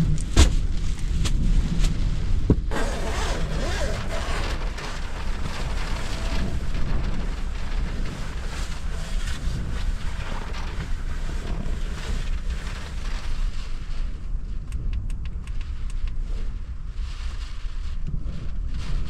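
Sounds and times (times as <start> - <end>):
strong wind on microphone: 0.0 - 19.0.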